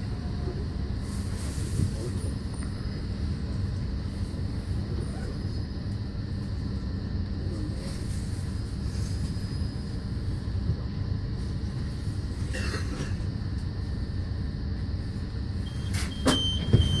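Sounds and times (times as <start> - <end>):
train rumbling: 0.0 - 6.8, 7.4 - 17.0.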